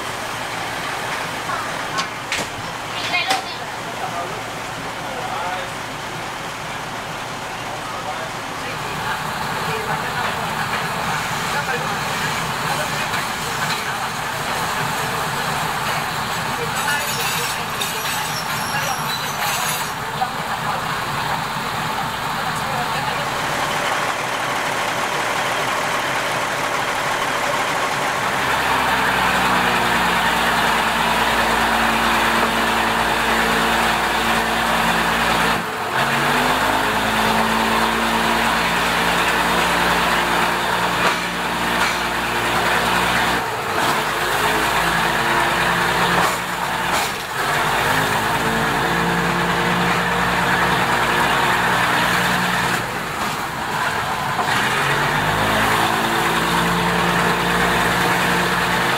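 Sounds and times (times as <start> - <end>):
diesel railcar engine: 0.0 - 58.9.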